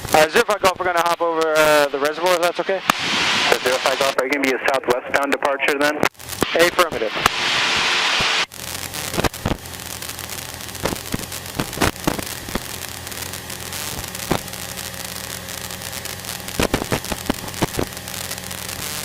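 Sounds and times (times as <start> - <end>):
sharp crackles and pops: 0.0 - 4.5, 5.9 - 19.0.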